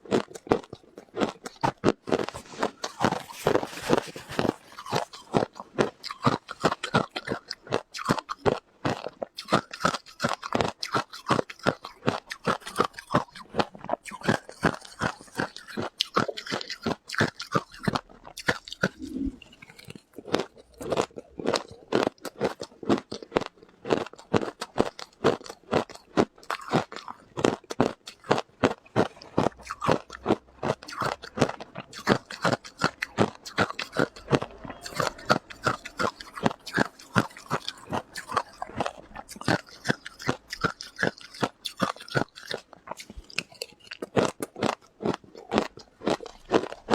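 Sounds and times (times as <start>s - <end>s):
chewing hard ice: 0.0s - 46.9s.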